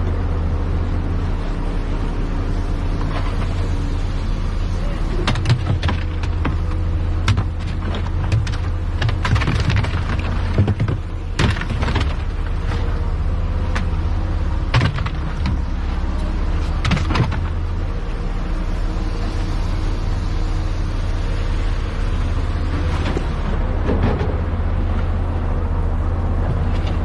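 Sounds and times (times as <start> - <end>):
earth-moving machine engine running: 0.0 - 27.0.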